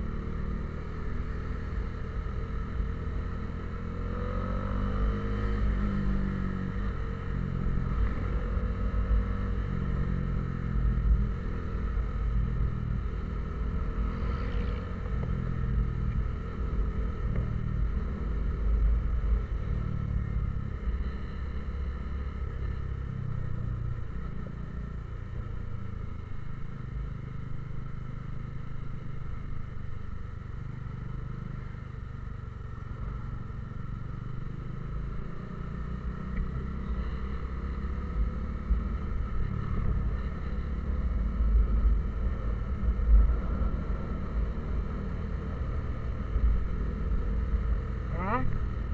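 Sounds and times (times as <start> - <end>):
road rumble: 0.0 - 48.9
vehicle engine while driving: 0.0 - 48.9.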